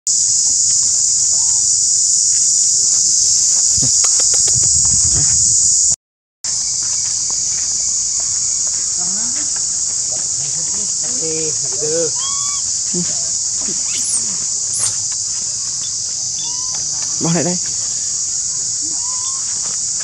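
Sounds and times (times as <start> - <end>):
high-pitched insect drone: 0.1 - 5.9, 6.5 - 20.0.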